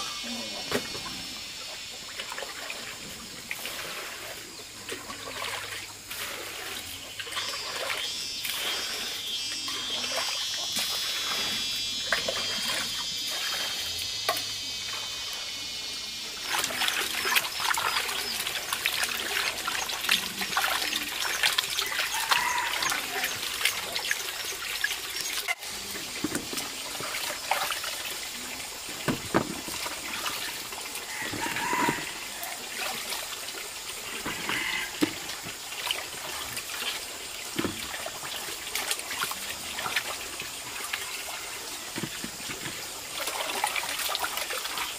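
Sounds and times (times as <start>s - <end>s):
water splashing and trickling: 0.0s - 44.9s.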